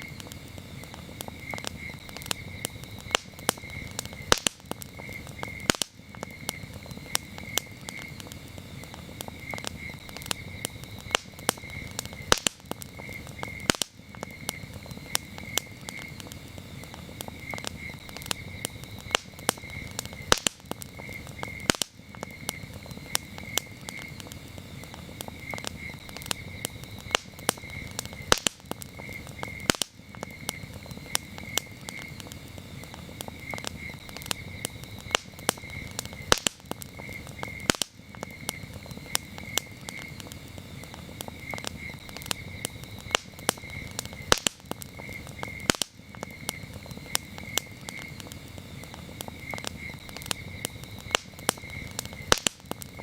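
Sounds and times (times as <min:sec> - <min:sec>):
campfire crackling and popping: 0:00.0 - 0:53.0
crickets chirping: 0:00.0 - 0:53.0.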